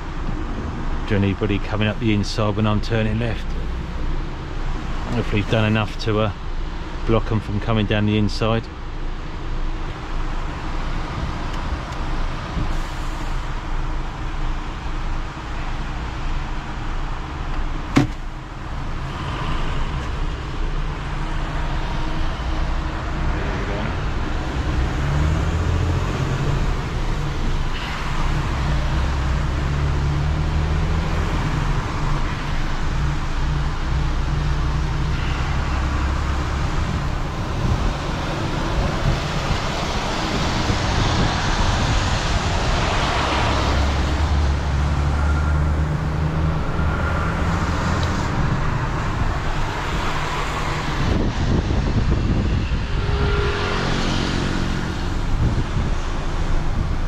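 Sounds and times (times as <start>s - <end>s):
truck diesel engine: 0.0s - 57.0s
tyre and traffic noise: 0.0s - 57.0s.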